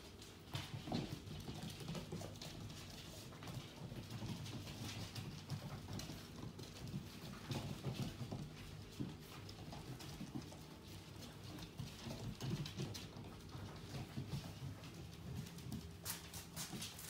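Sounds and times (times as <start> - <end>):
dog claws clicking on hard floor: 0.1 - 17.0.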